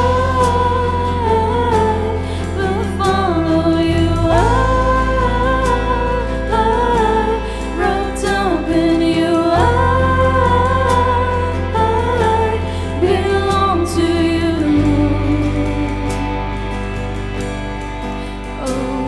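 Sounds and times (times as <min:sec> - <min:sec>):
person singing melody: 0:00.0 - 0:17.5, 0:18.1 - 0:19.0
keyboard chords: 0:00.0 - 0:19.0
sustained bass: 0:00.0 - 0:19.0.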